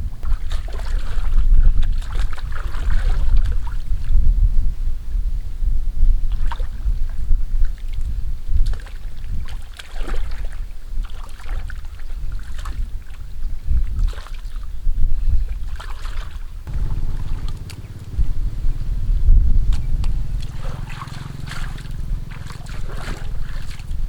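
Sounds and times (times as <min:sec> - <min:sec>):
water splashing and sloshing: 0:00.0 - 0:04.2, 0:06.3 - 0:14.8, 0:15.5 - 0:24.0
wind buffeting microphone: 0:00.0 - 0:24.0.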